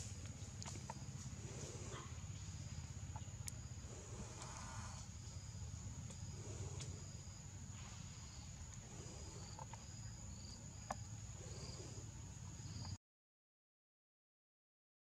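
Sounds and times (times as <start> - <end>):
insect chirps: 0.0 - 13.0
insects droning: 0.0 - 13.0.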